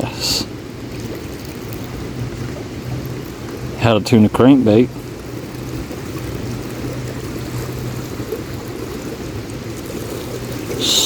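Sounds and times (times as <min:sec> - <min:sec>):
waves washing against shore: 0:00.0 - 0:11.0
wind buffeting microphone: 0:00.0 - 0:11.0.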